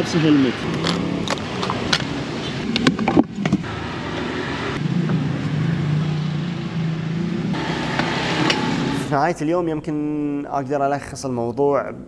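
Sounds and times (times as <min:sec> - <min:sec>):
motorbike engines humming: 0:00.0 - 0:10.4.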